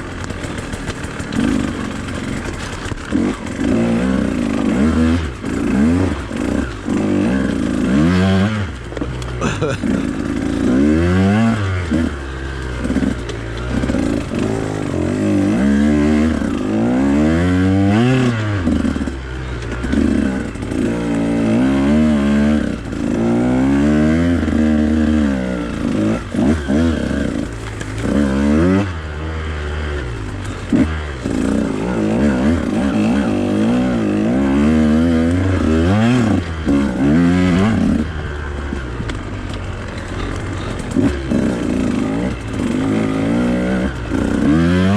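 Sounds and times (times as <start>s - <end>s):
bike clattering: 0.0s - 17.2s, 24.4s - 44.6s
dirt bike engine revving: 0.0s - 44.9s.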